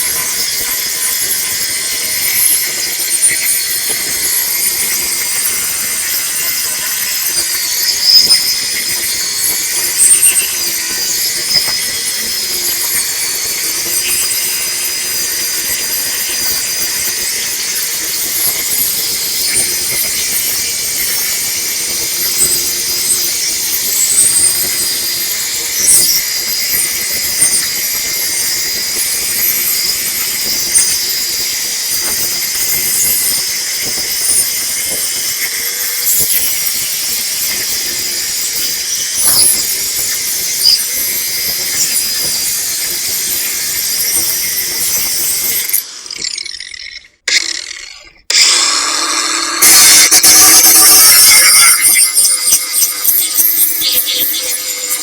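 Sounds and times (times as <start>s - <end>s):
angle grinder grinding: 0.0s - 55.0s.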